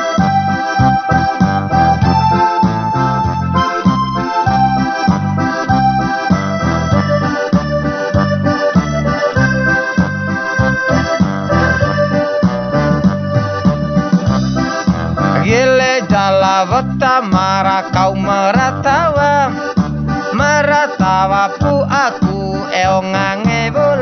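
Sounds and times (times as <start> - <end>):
bass beat: 0.0 - 24.0
electric keyboard or organ: 0.0 - 24.0.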